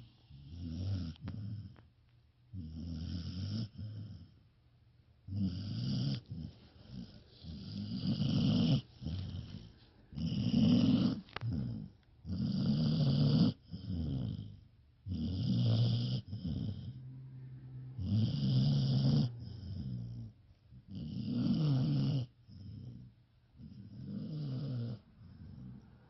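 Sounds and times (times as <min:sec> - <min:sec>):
dog snoring: 0:00.0 - 0:01.9, 0:02.5 - 0:04.6, 0:05.2 - 0:26.0.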